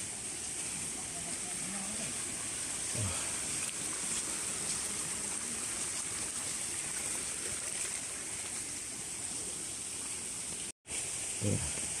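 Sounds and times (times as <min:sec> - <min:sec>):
forest stream flowing: 0:00.0 - 0:12.0.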